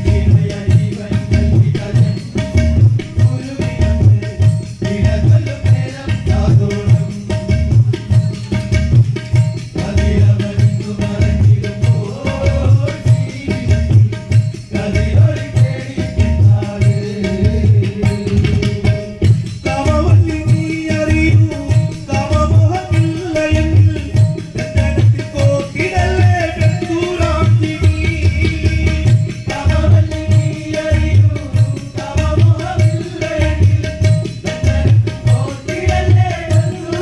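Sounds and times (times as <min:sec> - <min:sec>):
hand drums beating: 0:00.0 - 0:37.0.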